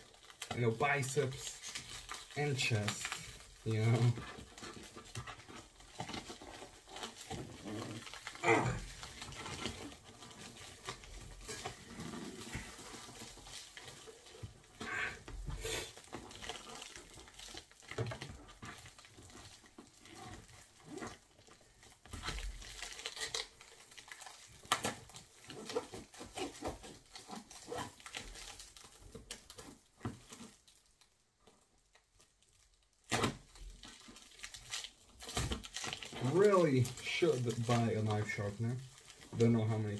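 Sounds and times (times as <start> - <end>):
plastic crinkling: 0.0 - 39.9.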